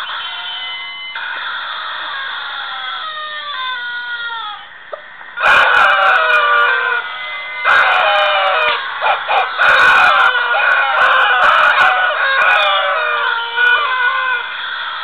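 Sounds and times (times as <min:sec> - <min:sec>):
rubber chicken toys squawking: 0:00.0 - 0:04.8, 0:05.4 - 0:15.0.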